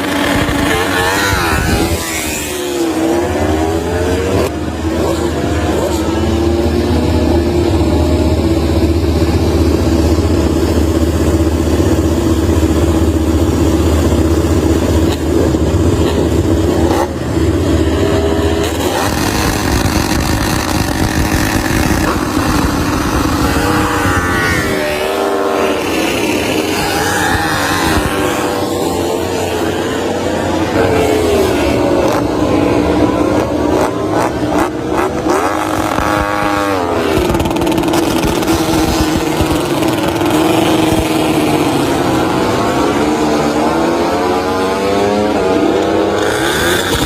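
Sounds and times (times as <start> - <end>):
motorcycle engines at high revs: 0.0 - 47.0.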